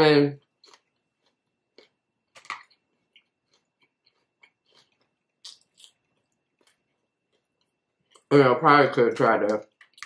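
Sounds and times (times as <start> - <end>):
chewing food: 0.4 - 8.3, 9.4 - 10.0.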